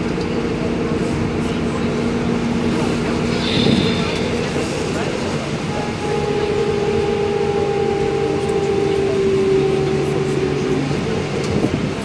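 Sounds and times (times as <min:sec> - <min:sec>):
bus drivetrain whine: 0:00.0 - 0:12.0.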